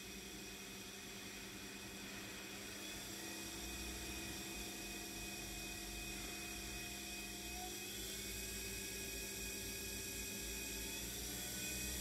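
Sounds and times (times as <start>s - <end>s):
electric motor whine and hum: 0.0s - 12.0s.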